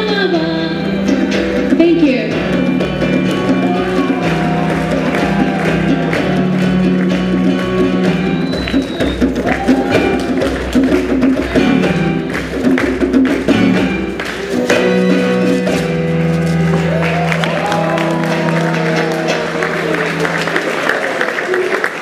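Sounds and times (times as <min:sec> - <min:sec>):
bass notes: 0:00.0 - 0:20.5
percussion: 0:00.0 - 0:22.0.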